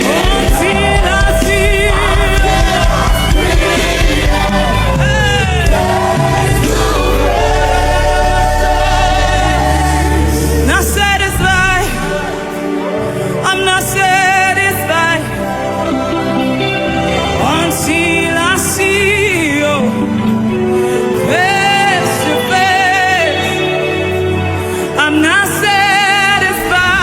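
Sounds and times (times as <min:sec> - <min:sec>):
band with steady bass: 0:00.0 - 0:27.0
singers holding wavering notes: 0:00.0 - 0:27.0.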